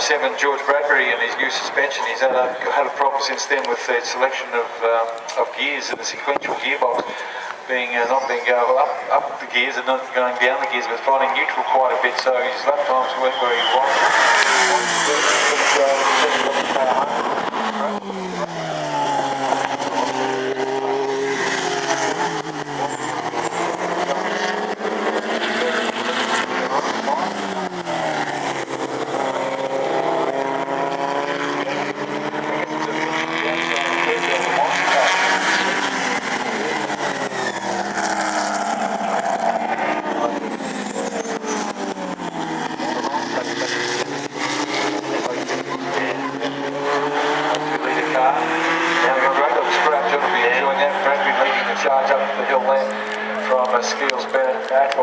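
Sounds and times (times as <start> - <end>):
racing car engines revving past: 0.0 - 55.0.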